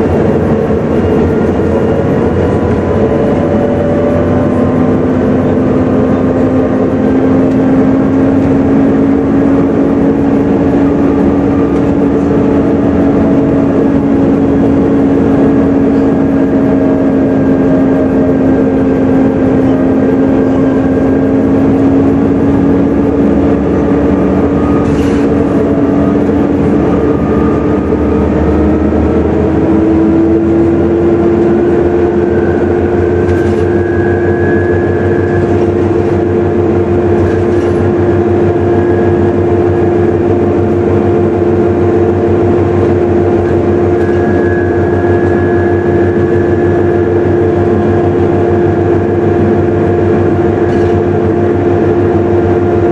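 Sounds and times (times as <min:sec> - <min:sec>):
bus engine: 0:00.0 - 0:52.9
bus whine: 0:00.0 - 0:52.9
road noise: 0:00.0 - 0:52.9.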